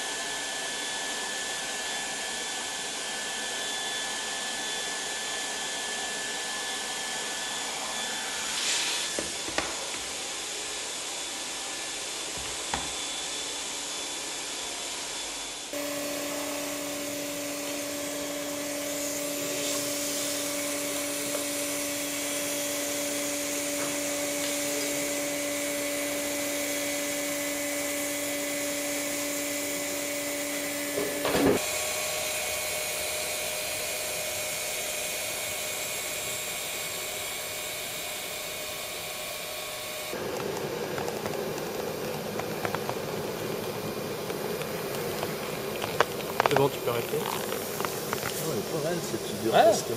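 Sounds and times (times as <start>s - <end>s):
hot-air blower hissing: 0.0s - 49.9s.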